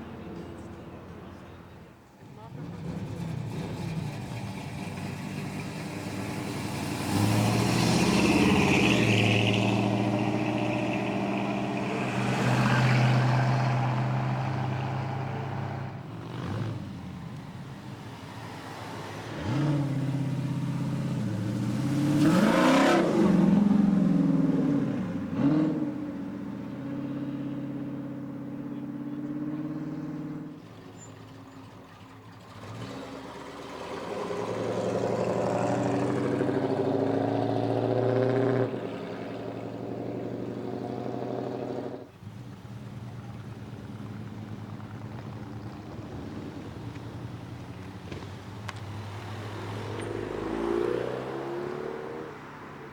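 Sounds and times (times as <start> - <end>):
car engines revving past: 0.0 - 52.9.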